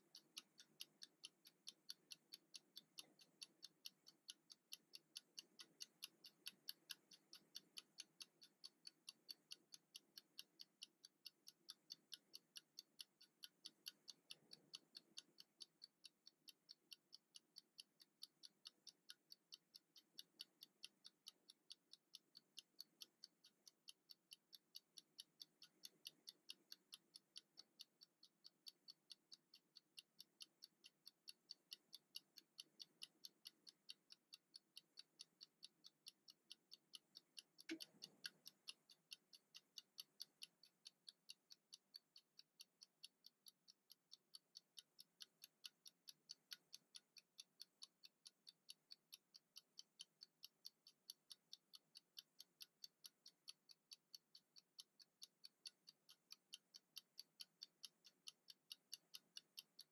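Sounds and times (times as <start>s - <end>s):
kitchen timer ticking: 0.0s - 59.9s.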